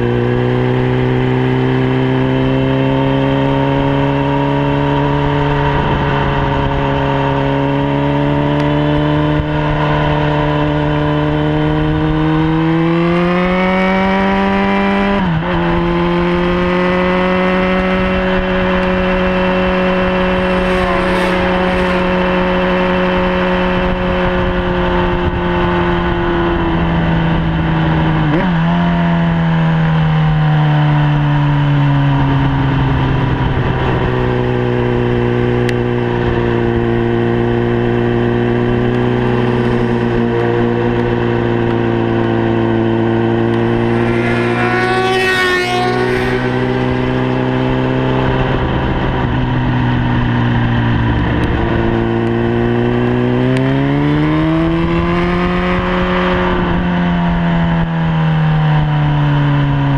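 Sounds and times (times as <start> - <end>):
wind rush on microphone: 0.0 - 30.2, 31.0 - 59.9
motorcycle engine revving: 0.0 - 59.9.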